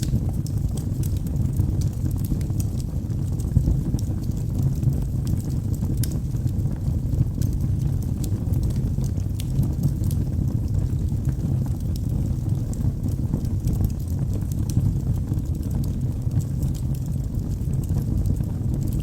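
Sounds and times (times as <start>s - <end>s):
burning wood crackling: 0.0s - 19.0s
fire flames rumbling: 0.0s - 19.0s.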